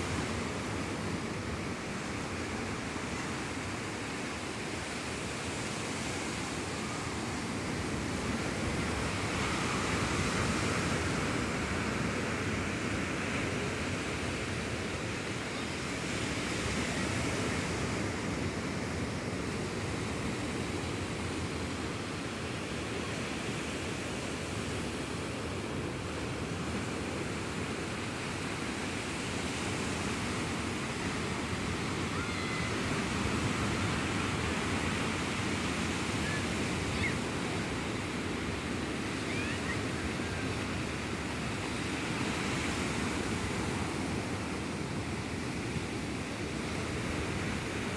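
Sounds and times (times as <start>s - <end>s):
sea surf washing ashore: 0.0s - 47.9s.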